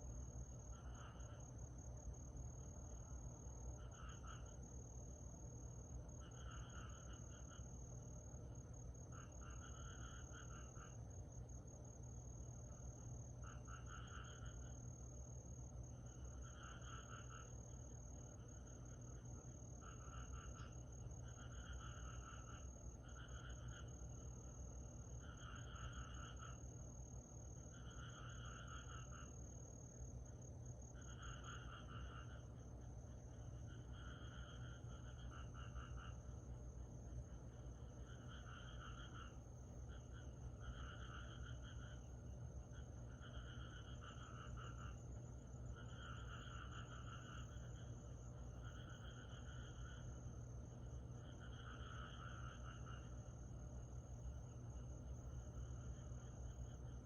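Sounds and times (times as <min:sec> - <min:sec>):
lower pulsed insect call: 0:00.0 - 0:57.0.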